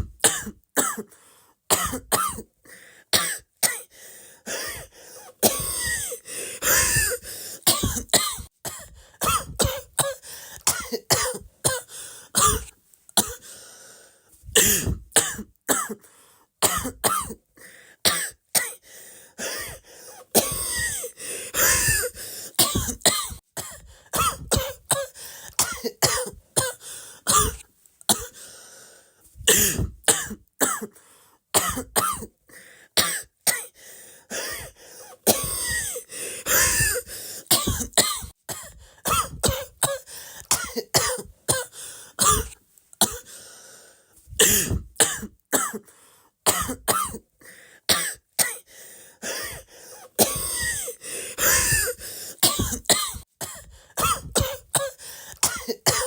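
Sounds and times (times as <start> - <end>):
person coughing: 0.0 - 1.1, 1.7 - 2.5, 3.2 - 3.9, 4.5 - 13.5, 14.5 - 16.0, 16.6 - 17.4, 19.4 - 28.4, 29.4 - 31.0, 31.6 - 32.4, 33.0 - 43.4, 44.4 - 45.9, 46.5 - 47.2, 47.9 - 56.0.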